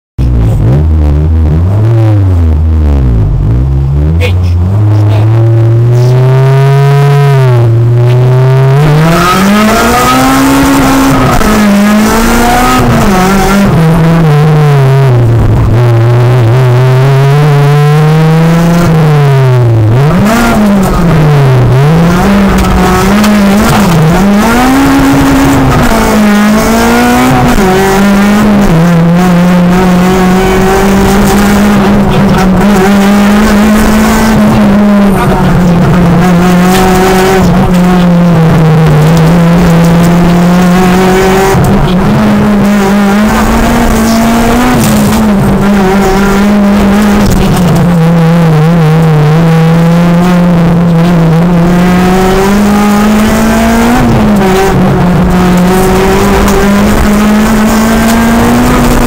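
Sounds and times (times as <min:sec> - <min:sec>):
rally car engine revving in cabin: 0:00.2 - 0:59.0.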